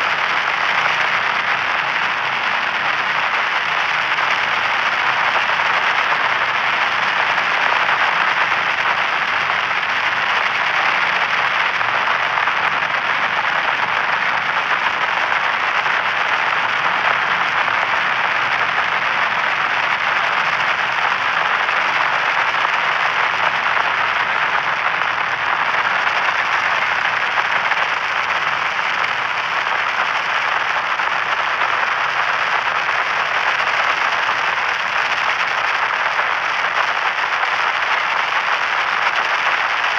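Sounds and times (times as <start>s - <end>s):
white noise static hiss: 0.0s - 39.9s.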